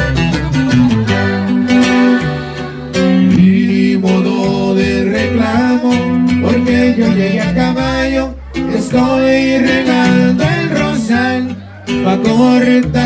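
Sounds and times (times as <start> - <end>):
button accordion melody: 0.0 - 13.0
plucked upright bass: 0.0 - 13.0
strummed acoustic guitar: 0.0 - 13.0.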